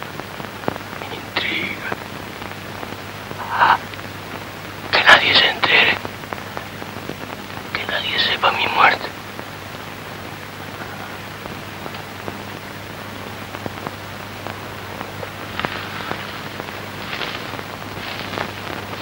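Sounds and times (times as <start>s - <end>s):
faint crackles: 0.0s - 19.0s
rain-like hiss: 0.0s - 19.0s.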